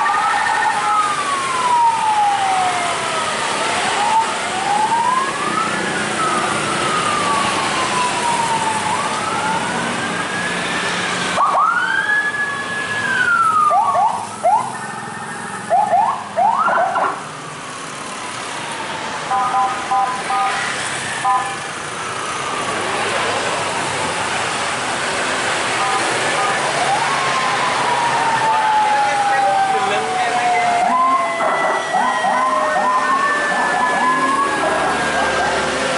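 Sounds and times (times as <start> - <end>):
ambulance sirens wailing: 0.0 - 35.9
motorcycle and car traffic: 0.0 - 35.9.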